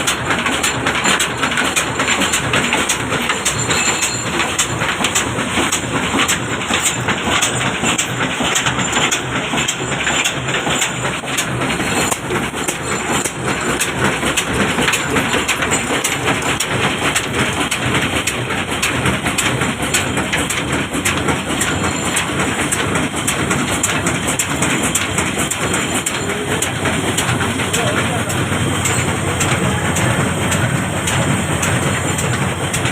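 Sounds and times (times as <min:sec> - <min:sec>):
diesel engine knocking steadily: 0:00.0 - 0:32.9
mill grinding: 0:00.0 - 0:32.9.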